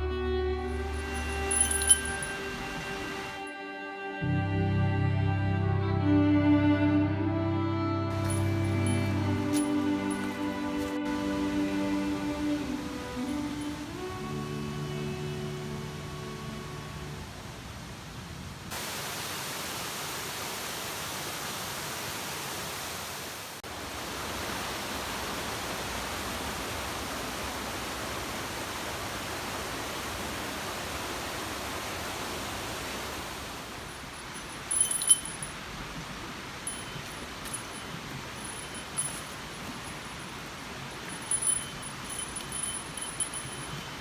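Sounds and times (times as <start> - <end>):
mountain stream rushing: 0.0 - 3.7, 7.7 - 44.0.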